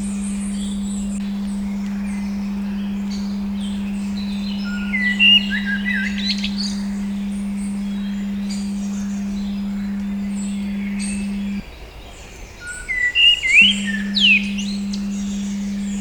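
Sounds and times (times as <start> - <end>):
songbirds chirping: 0.0 - 16.0
steady pure tone: 0.0 - 16.0.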